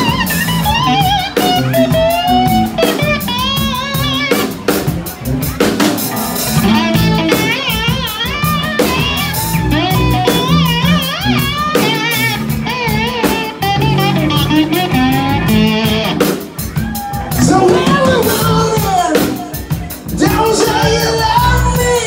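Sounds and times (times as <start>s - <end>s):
electric guitar solo: 0.0s - 4.7s, 6.0s - 19.7s
bass guitar: 0.0s - 22.0s
drum kit steady beat: 0.0s - 22.0s.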